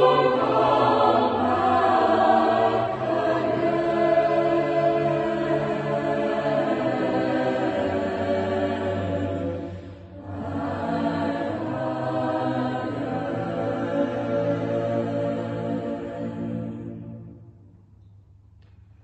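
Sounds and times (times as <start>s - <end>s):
choir singing sustained chords: 0.0s - 17.9s.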